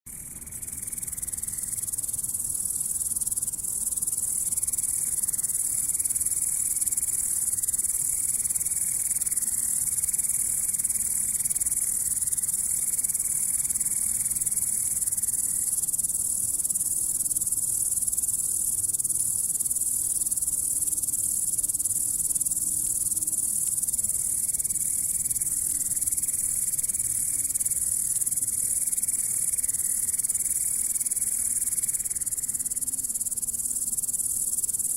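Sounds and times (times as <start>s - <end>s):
grasshopper stridulating: 0.1s - 34.9s.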